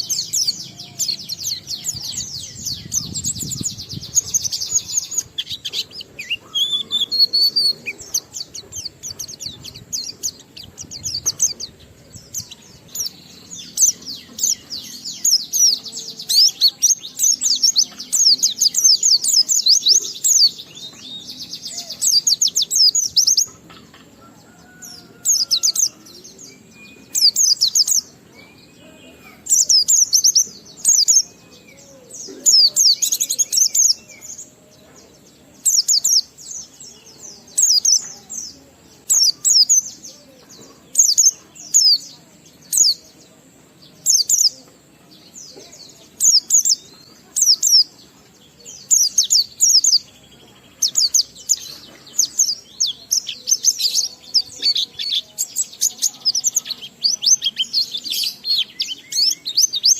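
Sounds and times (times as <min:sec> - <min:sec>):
bird high twittering song: 0:00.0 - 0:59.9.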